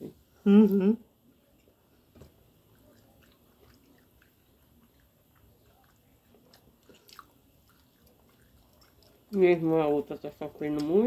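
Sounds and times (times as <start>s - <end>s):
people chewing food: 0.5s - 11.0s.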